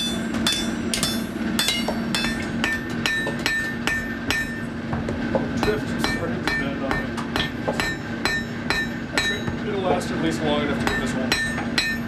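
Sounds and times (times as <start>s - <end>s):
hammer ringing on steel: 0.0s - 12.0s
steady low hum: 0.0s - 12.0s.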